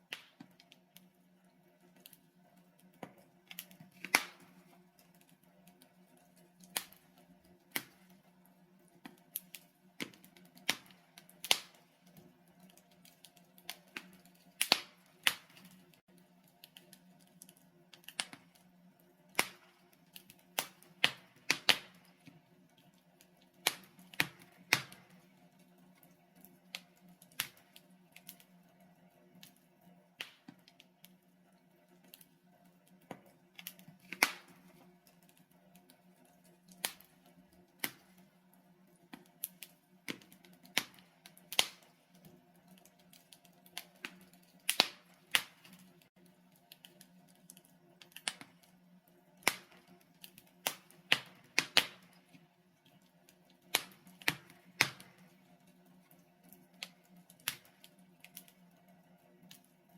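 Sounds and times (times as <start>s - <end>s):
logs crackling in a fireplace: 0.0s - 59.9s.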